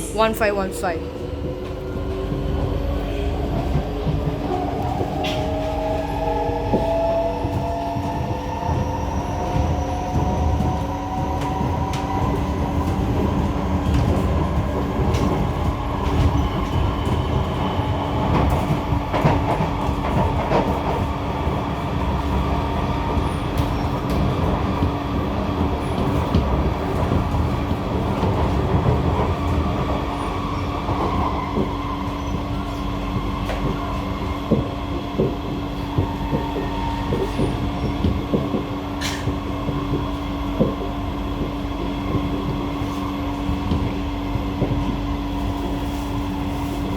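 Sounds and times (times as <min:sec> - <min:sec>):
train wheels rumbling and clicking: 0:00.0 - 0:46.9.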